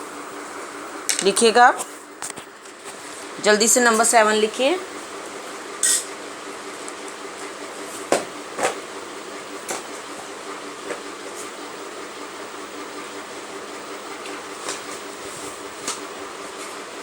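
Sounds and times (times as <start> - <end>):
ventilation hum: 0.0 - 17.0.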